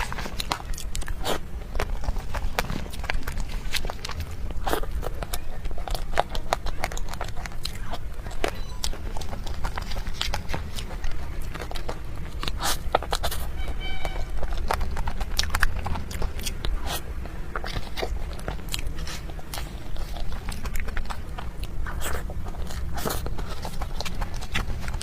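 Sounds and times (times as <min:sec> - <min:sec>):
person chewing sticky sweet: 0:00.0 - 0:25.0
steady low rumble: 0:00.0 - 0:25.0.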